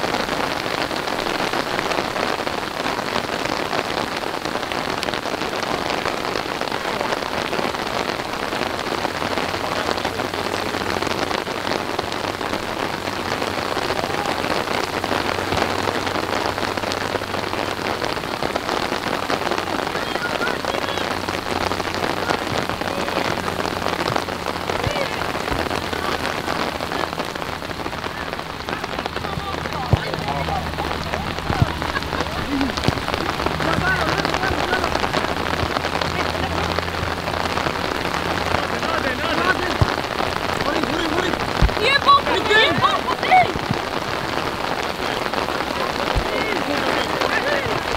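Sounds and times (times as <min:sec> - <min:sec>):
rain-like rushing noise: 0:00.0 - 0:47.9.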